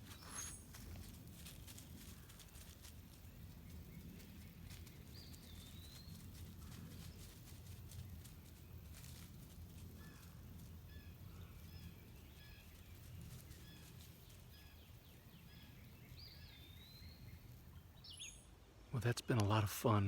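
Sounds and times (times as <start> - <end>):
small bird chirping: 0.0 - 9.2, 10.0 - 18.5.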